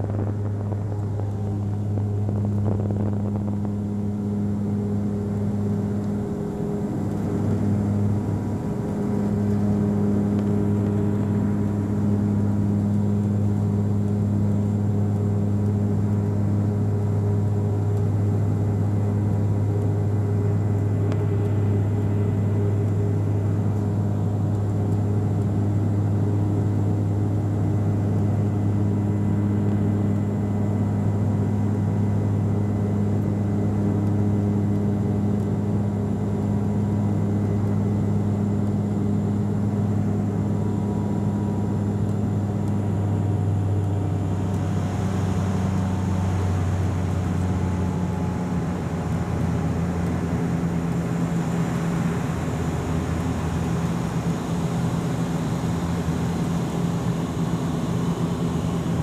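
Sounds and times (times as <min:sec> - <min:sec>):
turboprop cabin drone: 0:00.0 - 0:59.0.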